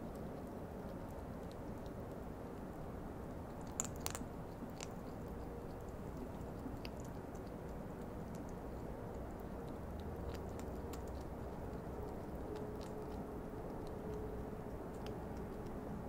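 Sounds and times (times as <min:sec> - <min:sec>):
hedgehog crunching dry food: 0:00.0 - 0:16.0.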